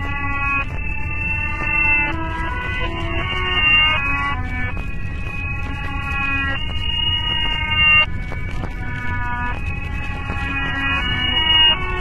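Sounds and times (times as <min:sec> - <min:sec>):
electronic alarm tones: 0:00.0 - 0:12.0.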